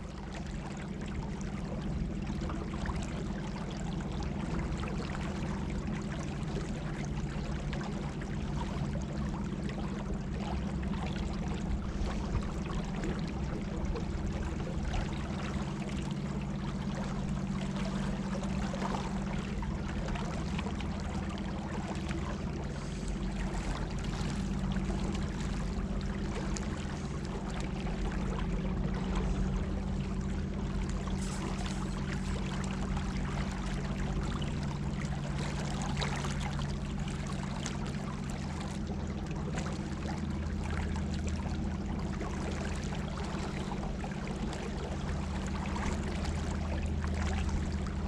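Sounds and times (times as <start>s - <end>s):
water trickling along boat hull: 0.0s - 48.0s.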